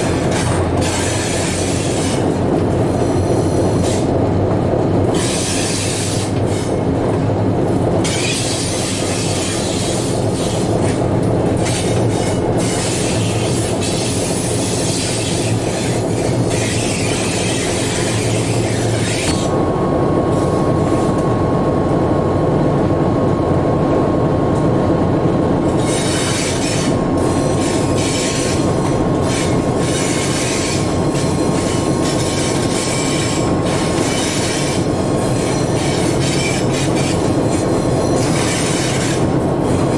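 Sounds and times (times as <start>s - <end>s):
diesel locomotive engine: 0.0s - 39.9s
wheel noise on track: 0.0s - 39.9s.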